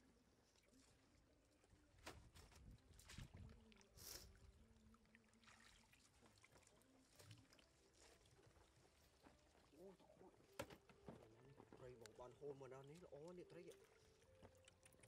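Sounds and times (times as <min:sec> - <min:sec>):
water splashing and sloshing: 0:02.0 - 0:15.0.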